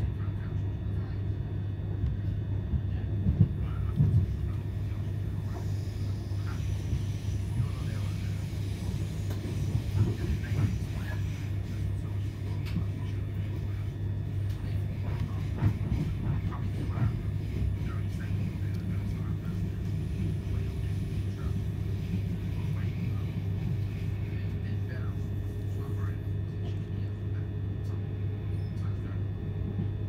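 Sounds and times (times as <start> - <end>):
electric train interior rumble: 0.0 - 30.0.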